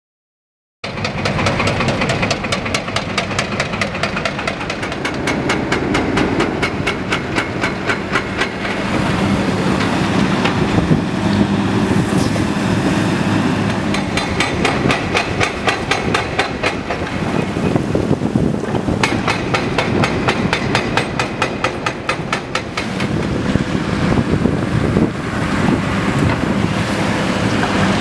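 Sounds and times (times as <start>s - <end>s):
hydraulic breaker pounding concrete: 0.8s - 11.6s, 13.6s - 26.7s.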